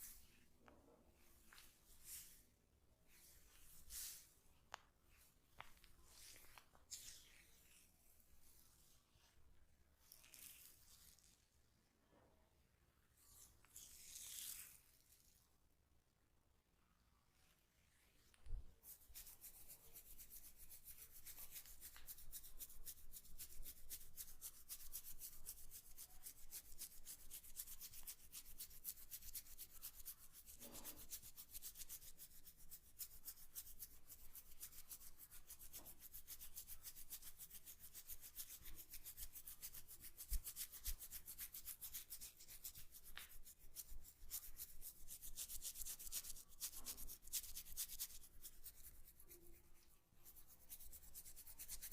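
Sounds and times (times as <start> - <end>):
hands rubbing hair: 0.0 - 0.4, 1.2 - 2.5, 3.1 - 8.6, 10.0 - 11.4, 18.2 - 51.9.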